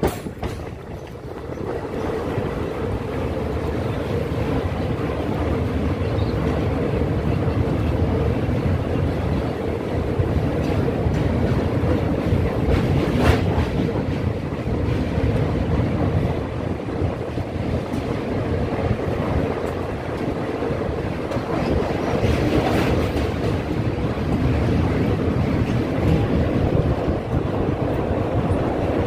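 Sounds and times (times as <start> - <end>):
train rumbling over rail bridge: 0.0 - 29.0
wind on microphone: 0.0 - 29.0.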